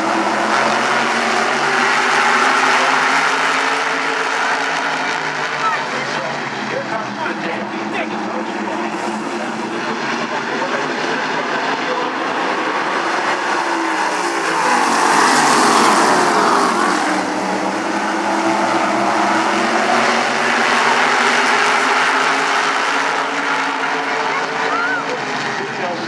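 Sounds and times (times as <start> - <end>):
race car engines: 0.0 - 26.0
race car passing close: 0.0 - 26.0.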